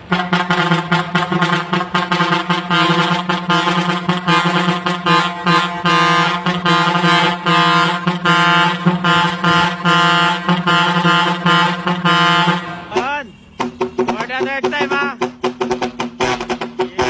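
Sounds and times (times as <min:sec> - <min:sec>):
truck air horns blaring: 0:00.0 - 0:17.0.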